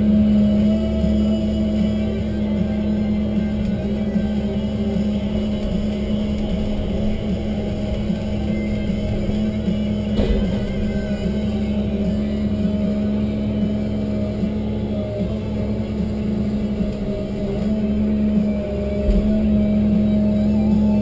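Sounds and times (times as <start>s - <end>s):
crane hydraulics running: 0.0s - 21.0s
diesel engine droning: 0.0s - 21.0s.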